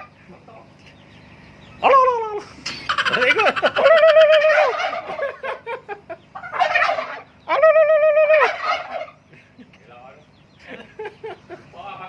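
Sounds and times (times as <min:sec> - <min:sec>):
turkey gobbling: 0:00.0 - 0:00.2, 0:01.6 - 0:11.6.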